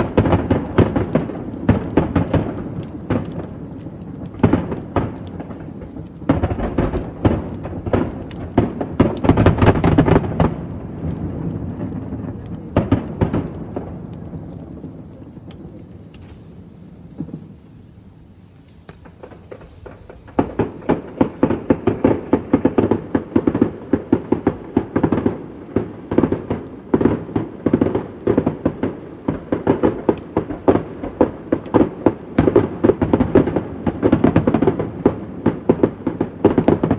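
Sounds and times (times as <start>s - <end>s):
fireworks bangs and crackles: 0.0s - 36.9s
fireworks rumble: 0.0s - 36.9s.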